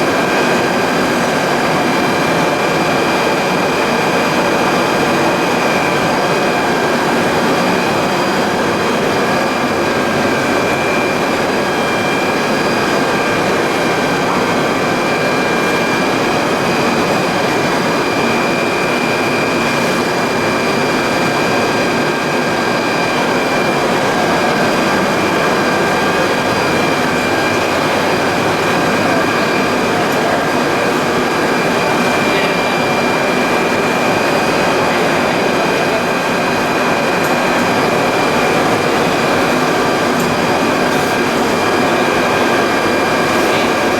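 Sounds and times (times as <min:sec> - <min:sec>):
industrial machinery running: 0:00.0 - 0:43.9.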